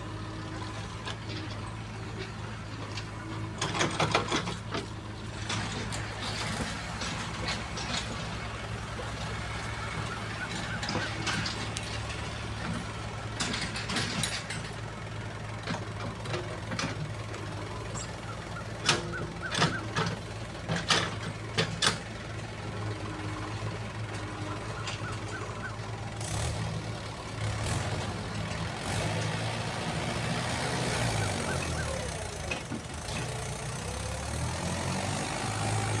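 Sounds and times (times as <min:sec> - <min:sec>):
backhoe diesel engine running: 0:00.0 - 0:36.0.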